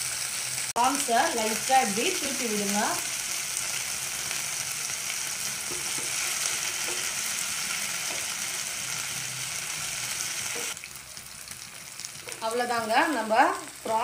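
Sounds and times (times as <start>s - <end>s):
prawns sizzling in a pan: 0.0s - 14.0s.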